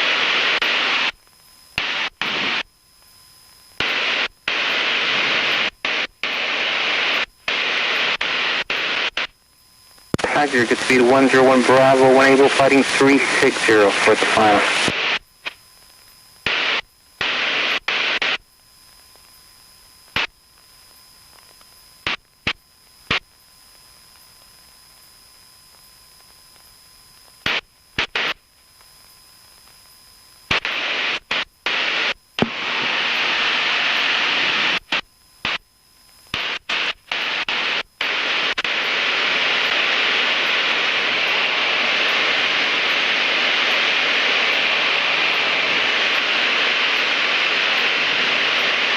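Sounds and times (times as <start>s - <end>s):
radio static hiss bursts: 0.0s - 48.9s
steady loud radio hiss: 0.0s - 48.9s.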